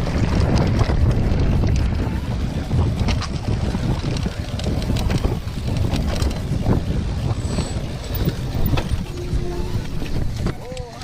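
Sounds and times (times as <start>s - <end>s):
bike clicking and rattling: 0.0s - 11.0s
wind rumbling on microphone: 0.0s - 11.0s.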